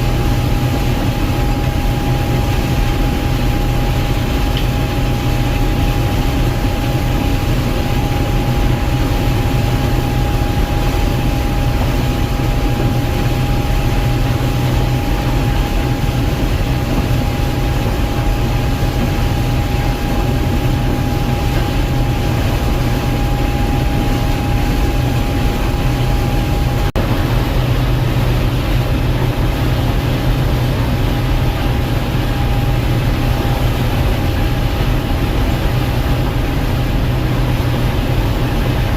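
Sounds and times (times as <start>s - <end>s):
combine harvester drone: 0.0s - 38.9s
constant machine whine: 0.0s - 38.9s.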